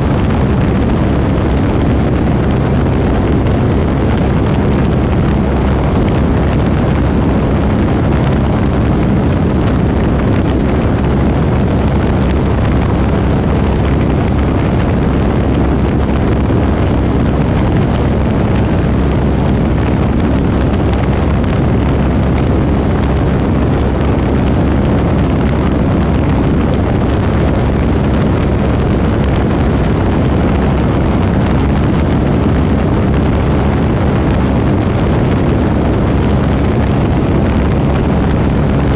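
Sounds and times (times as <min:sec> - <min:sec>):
propeller engine drone: 0:00.0 - 0:38.9.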